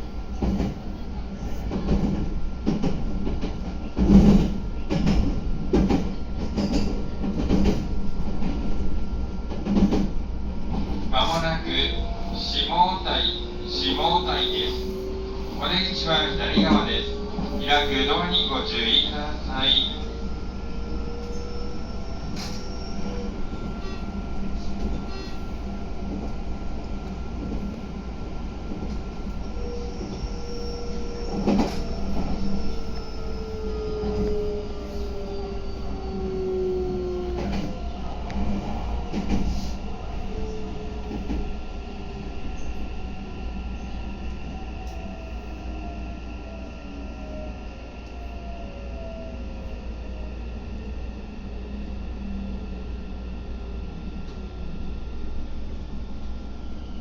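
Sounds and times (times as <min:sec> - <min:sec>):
train running low rumble: 0:00.0 - 0:57.0.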